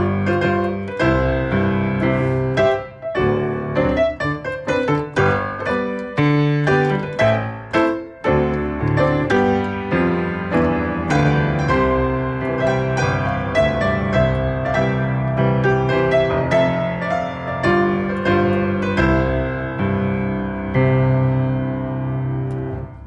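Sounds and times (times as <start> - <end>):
ballet piano music: 0.0 - 23.0.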